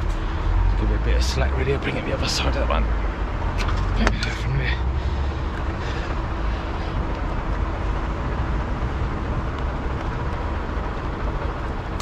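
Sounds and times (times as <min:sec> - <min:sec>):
diesel vehicles idling: 0:00.0 - 0:12.0
faint steady hum: 0:00.0 - 0:12.0
road noise: 0:00.0 - 0:12.0.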